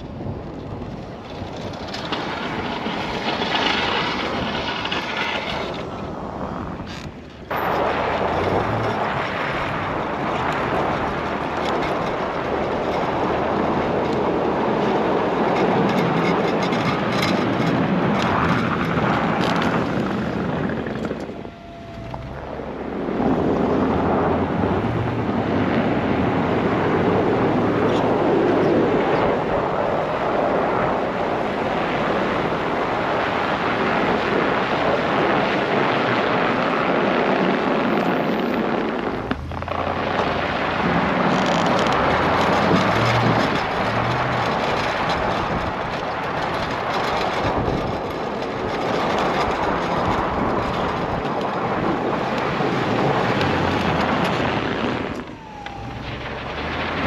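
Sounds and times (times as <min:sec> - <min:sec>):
truck engine humming: 0:00.0 - 0:34.6, 0:37.8 - 0:57.0
plow scraping snow: 0:00.0 - 0:57.0.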